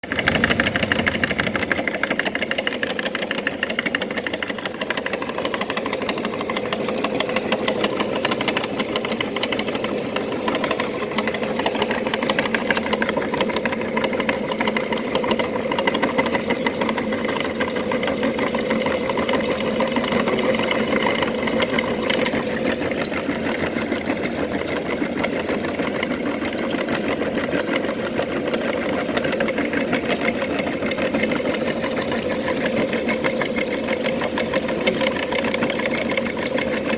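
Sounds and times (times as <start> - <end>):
electric meat grinder motor running: 0.0 - 36.9.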